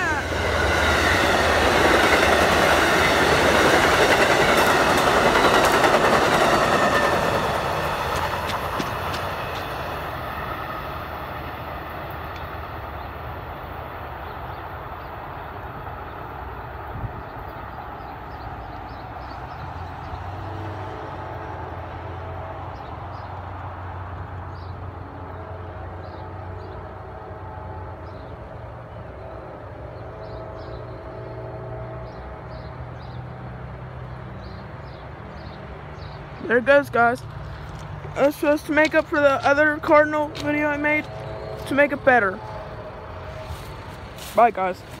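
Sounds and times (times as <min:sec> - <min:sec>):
train rumbling along rails: 0:00.0 - 0:45.0.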